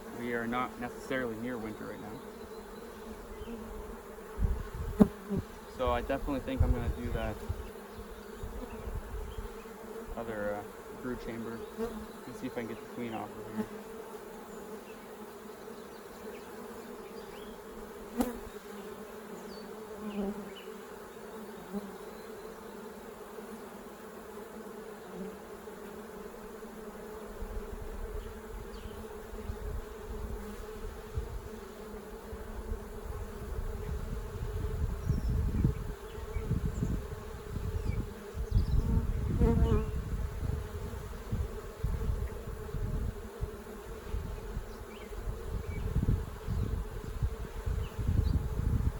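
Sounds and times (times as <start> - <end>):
honeybees buzzing: 0.0 - 48.9.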